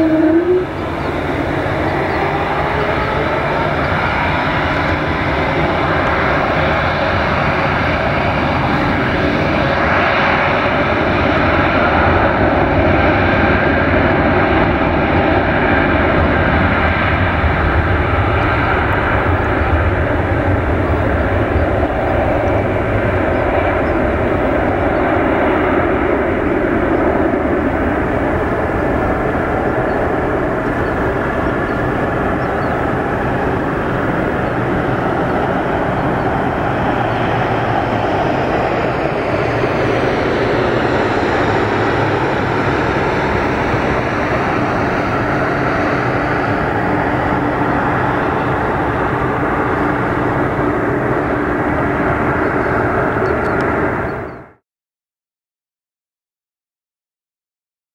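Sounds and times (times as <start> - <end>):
jet engine roar: 0.0 - 54.6.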